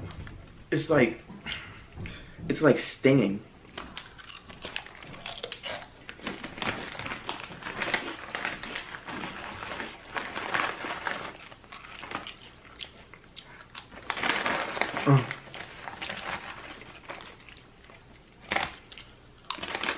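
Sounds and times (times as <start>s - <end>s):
chip bag crinkling: 3.7s - 19.9s
chips being chewed: 3.8s - 19.9s.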